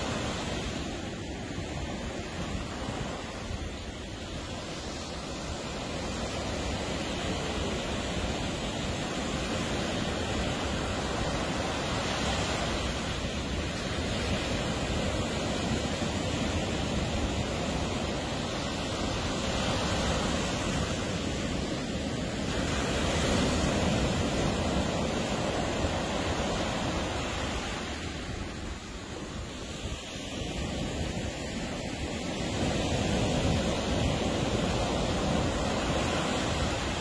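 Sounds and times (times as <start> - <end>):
ocean surf washing ashore: 0.0 - 37.0
wind rumble on microphone: 0.0 - 37.0.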